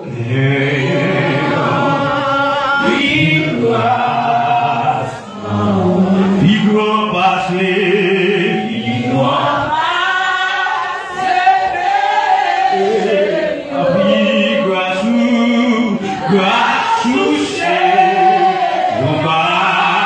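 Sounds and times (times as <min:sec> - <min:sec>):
voices singing worship song: 0:00.0 - 0:20.0.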